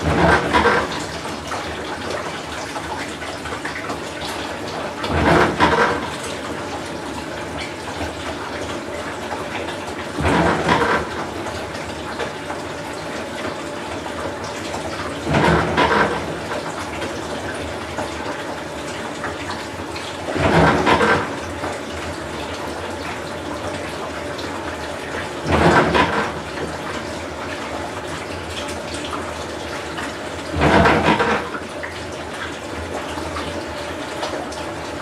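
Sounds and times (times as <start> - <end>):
washer water rushing: 0.0 - 35.0.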